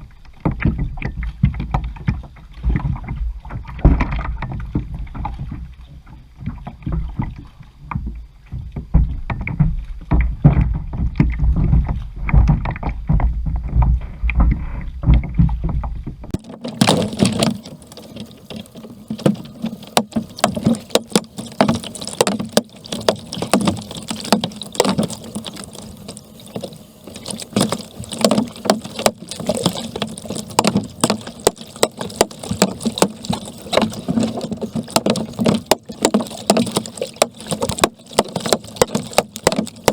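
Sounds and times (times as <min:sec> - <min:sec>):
paddle strokes splashing water: 0:00.0 - 0:39.9.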